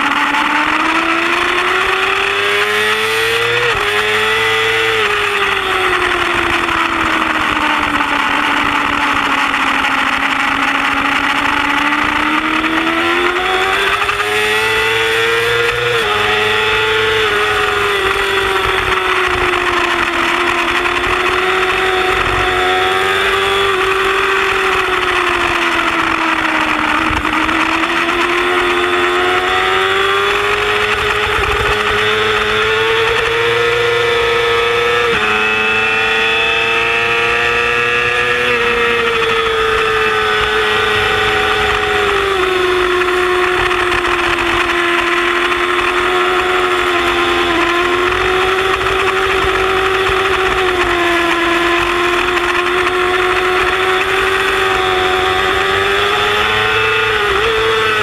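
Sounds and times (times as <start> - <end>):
motorcycle engine at high revs: 0.0 - 58.0.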